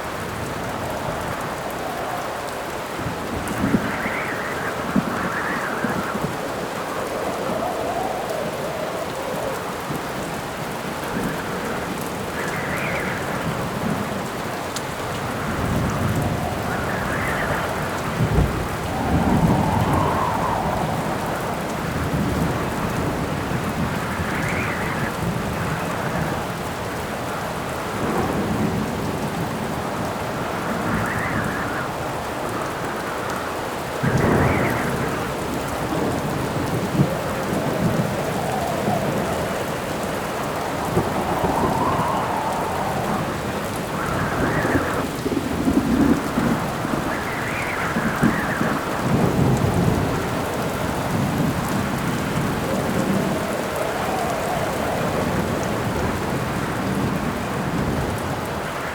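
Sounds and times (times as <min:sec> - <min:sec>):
steady rain: 0:00.0 - 0:58.9
thunder rumbling: 0:00.0 - 0:58.9
wind swells: 0:00.0 - 0:58.9.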